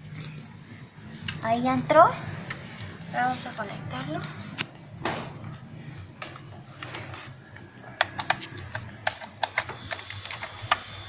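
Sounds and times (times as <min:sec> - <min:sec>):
refrigerator compressor humming: 0:00.0 - 0:11.0.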